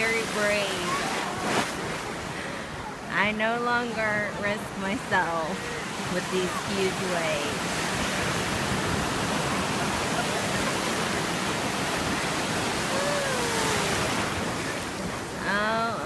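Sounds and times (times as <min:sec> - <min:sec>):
ocean surf breaking on shore: 0:00.0 - 0:16.0.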